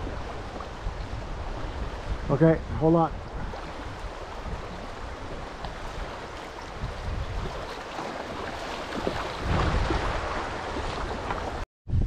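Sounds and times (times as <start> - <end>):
river water rushing: 0.0 - 11.6
wind rumble on microphone: 0.0 - 12.0.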